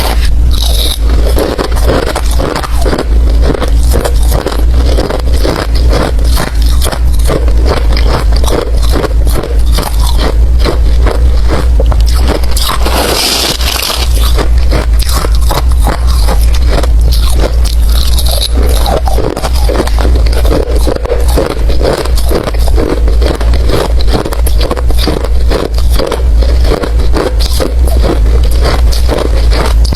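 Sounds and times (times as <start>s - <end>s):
ice crunching in mouth: 0.0s - 29.9s
low rumble: 0.0s - 29.9s.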